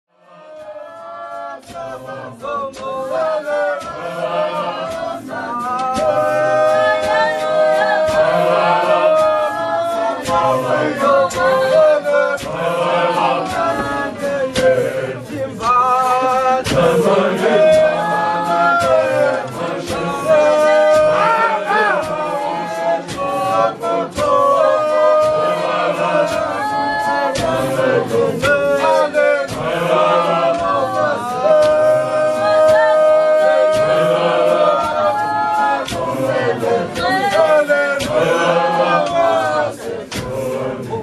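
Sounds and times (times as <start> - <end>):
congregation singing a hymn: 0.2 - 41.0
sharp percussive beats: 0.2 - 41.0.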